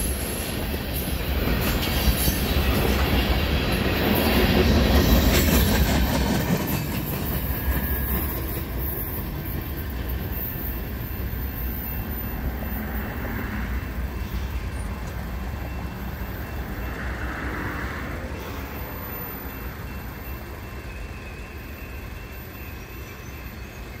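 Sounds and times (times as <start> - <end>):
freight train cars rumbling: 0.0 - 24.0.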